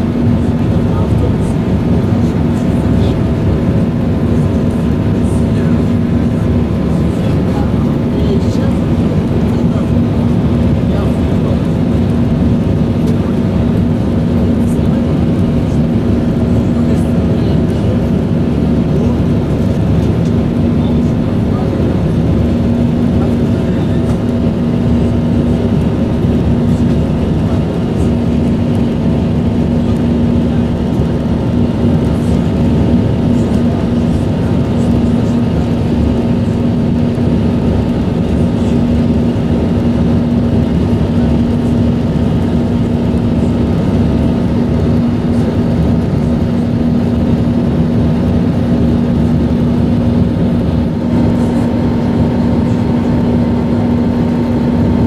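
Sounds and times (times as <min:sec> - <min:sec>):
constant low hum: 0:00.0 - 0:55.0
jet engine drone: 0:00.0 - 0:55.0.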